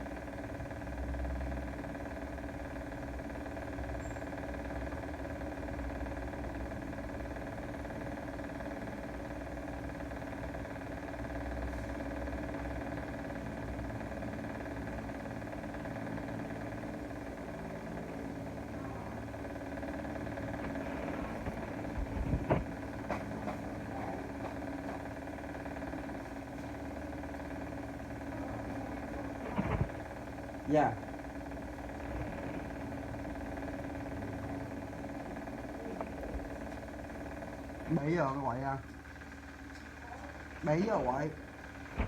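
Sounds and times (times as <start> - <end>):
machine hum: 0.0 - 42.0.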